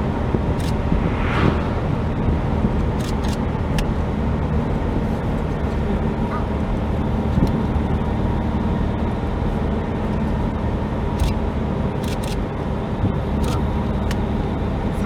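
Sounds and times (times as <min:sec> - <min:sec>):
road noise: 0:00.0 - 0:12.8.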